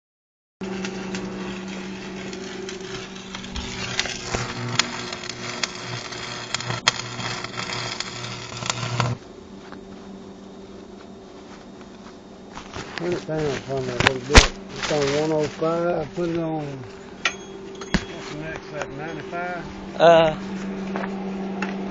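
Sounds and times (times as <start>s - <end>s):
welding arc buzzing and crackling: 0.6s - 21.9s.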